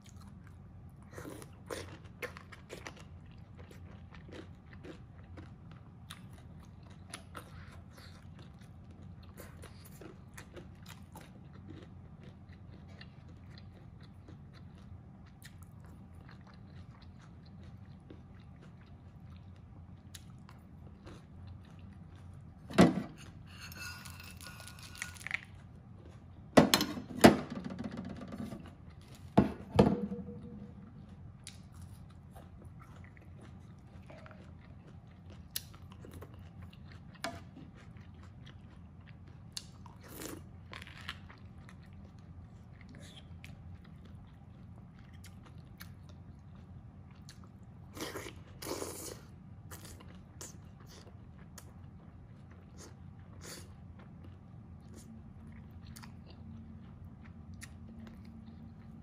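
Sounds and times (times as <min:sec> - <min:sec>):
soft chewing and mouth clicks: 0:00.0 - 0:23.4, 0:24.4 - 0:26.6, 0:30.3 - 0:59.0.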